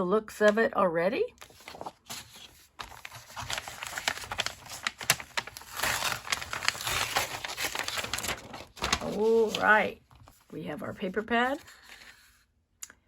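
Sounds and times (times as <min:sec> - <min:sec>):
plastic and paper crinkling: 0:01.4 - 0:12.4.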